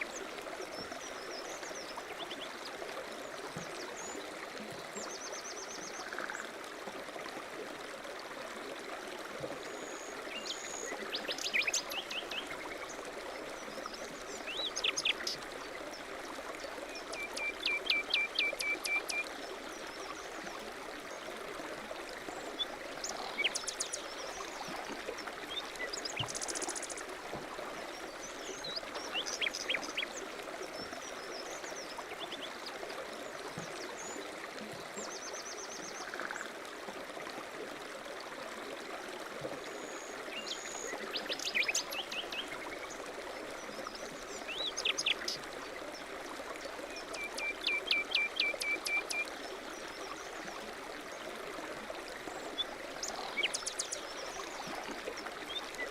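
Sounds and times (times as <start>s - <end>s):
mountain stream running: 0.0s - 55.9s.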